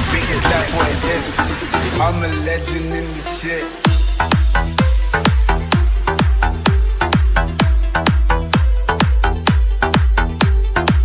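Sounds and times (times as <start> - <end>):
heavy bass drum beat: 0.0 - 11.0
hip-hop music: 0.0 - 11.0.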